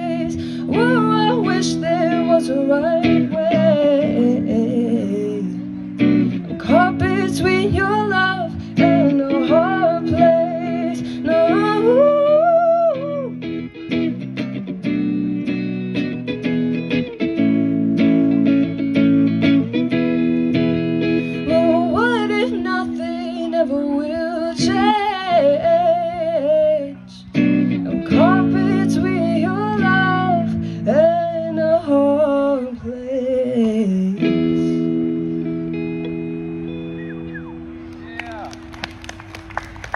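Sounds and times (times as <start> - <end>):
ringing electric guitar chords: 0.0 - 32.7, 33.8 - 39.9.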